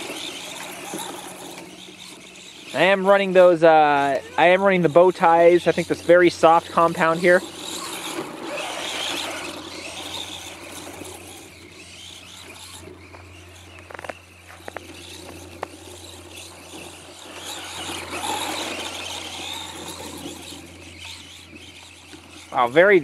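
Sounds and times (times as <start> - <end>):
toy truck electric motor whining: 0.0 - 23.0
wheels spinning through snow: 0.0 - 23.0.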